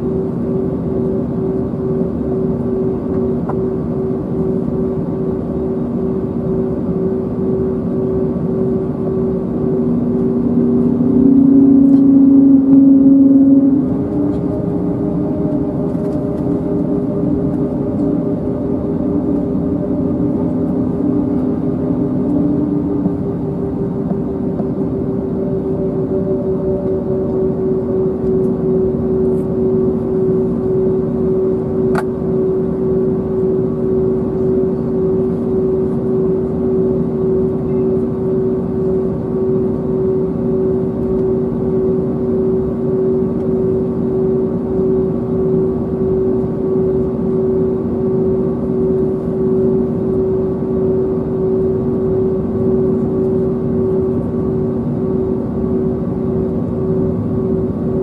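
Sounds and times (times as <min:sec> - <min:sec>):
aircraft cabin engine hum: 0:00.0 - 0:58.0.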